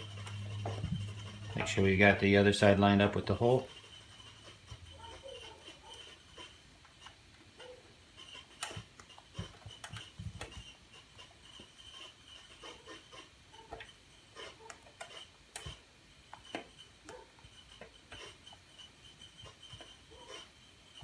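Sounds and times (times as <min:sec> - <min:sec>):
screws clicking and scraping: 0:00.0 - 0:21.0.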